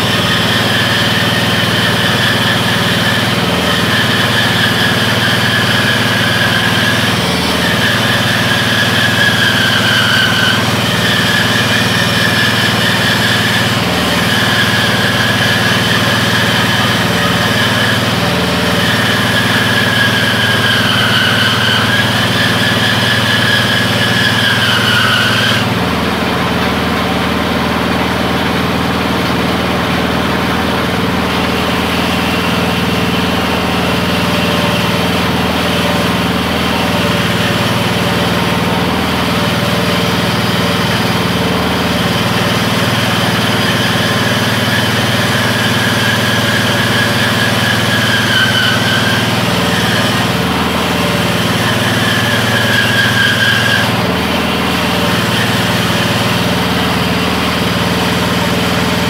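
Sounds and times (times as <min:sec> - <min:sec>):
bandsaw cutting wooden board: 0:00.0 - 0:59.0
small gasoline engine running: 0:00.0 - 0:59.0.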